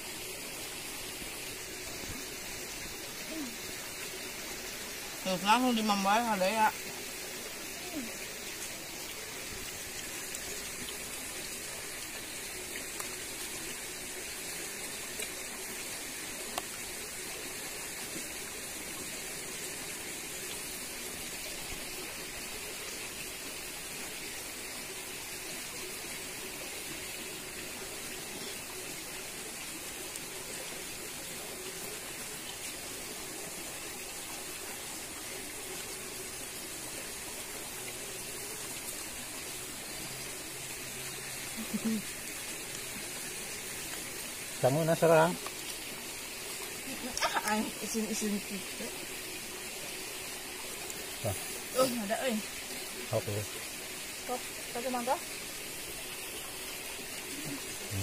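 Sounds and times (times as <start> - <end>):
river flowing: 0.0 - 58.0.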